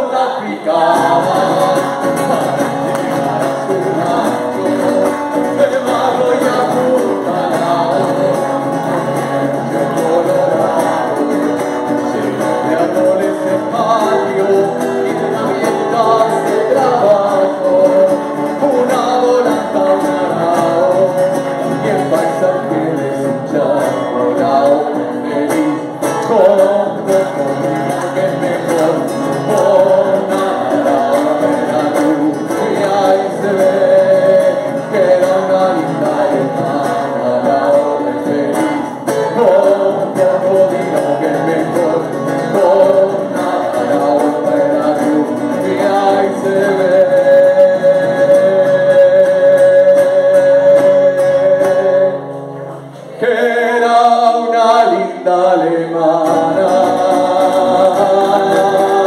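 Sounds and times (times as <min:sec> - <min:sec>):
acoustic guitar: 0:00.0 - 0:59.0
man and woman singing: 0:00.0 - 0:59.0.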